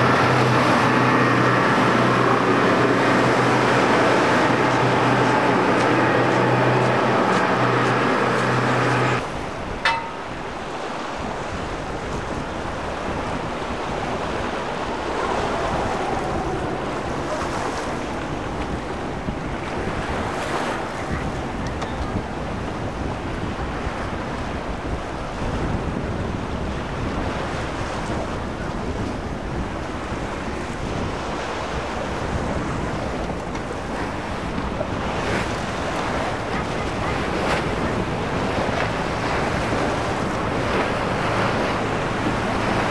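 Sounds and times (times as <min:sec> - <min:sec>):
water splashing against boat hull: 0:00.0 - 0:24.8, 0:27.2 - 0:42.9
wind buffeting microphone: 0:00.0 - 0:42.9.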